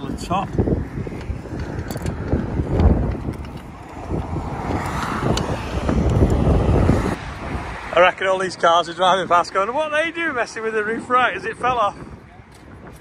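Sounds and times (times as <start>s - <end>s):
road traffic passing: 0.0s - 13.0s
wind buffeting microphone: 0.0s - 13.0s.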